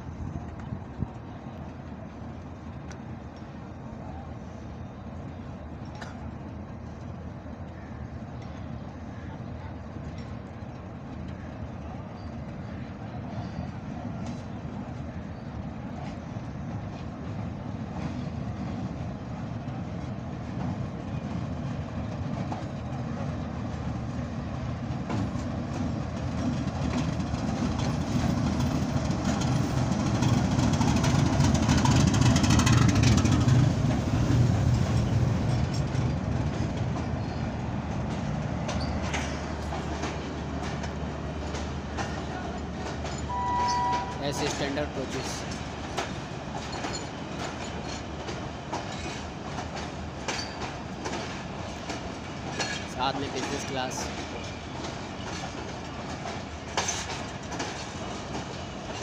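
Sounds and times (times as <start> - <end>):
train wheels rumbling and clattering: 0.0 - 59.0.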